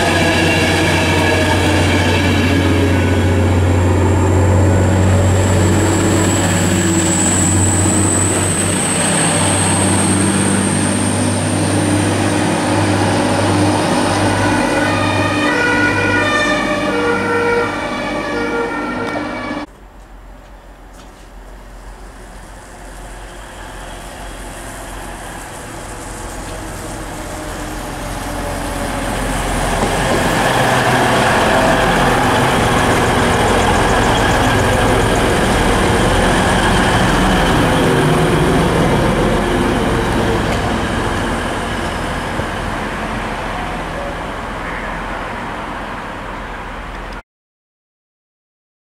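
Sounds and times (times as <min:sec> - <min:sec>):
train wheels on rails: 0:00.0 - 0:15.2, 0:19.0 - 0:46.0
diesel train passing: 0:00.0 - 0:47.2.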